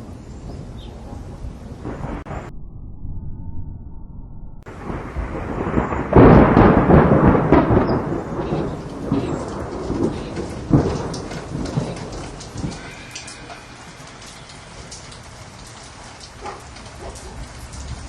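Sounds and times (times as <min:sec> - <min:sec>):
steady rain: 0:00.0 - 0:02.3, 0:04.7 - 0:18.0
thunder rumbling and cracking: 0:00.0 - 0:18.0.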